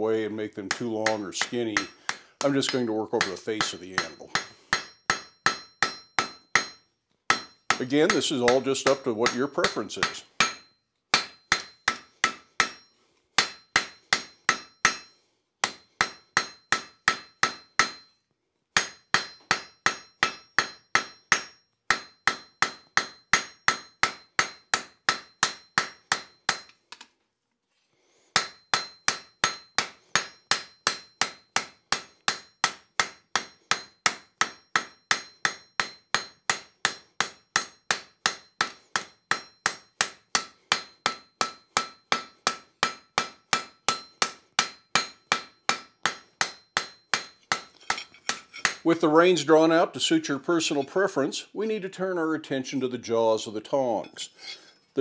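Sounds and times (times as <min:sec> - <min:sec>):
hammer striking hot steel on anvil: 0:00.7 - 0:18.2, 0:18.8 - 0:26.8, 0:28.4 - 0:49.0, 0:54.0 - 0:54.6.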